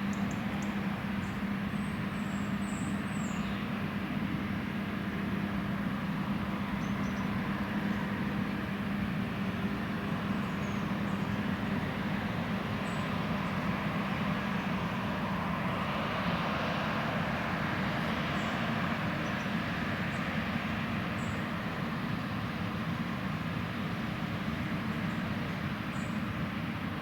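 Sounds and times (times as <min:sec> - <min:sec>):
combine harvester drone: 0:00.0 - 0:27.0.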